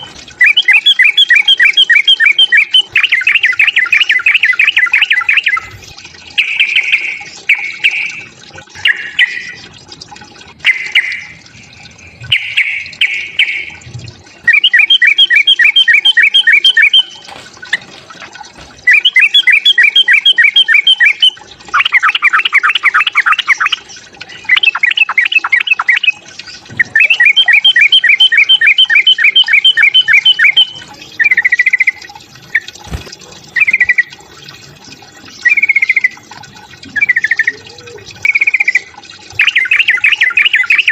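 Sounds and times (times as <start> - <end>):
bird chattering song: 0.0 - 5.8, 6.4 - 9.7, 10.6 - 11.4, 12.2 - 13.8, 14.5 - 17.2, 18.8 - 26.2, 26.8 - 32.7, 33.6 - 34.2, 35.3 - 40.9.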